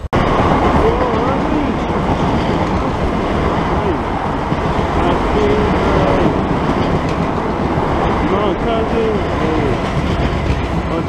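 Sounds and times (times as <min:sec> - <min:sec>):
electric train rumbling past: 0:00.0 - 0:11.0.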